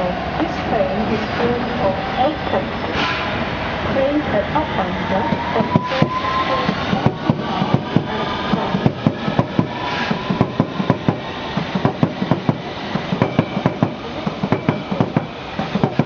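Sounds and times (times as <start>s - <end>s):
train wheels clacking: 0.0s - 16.0s.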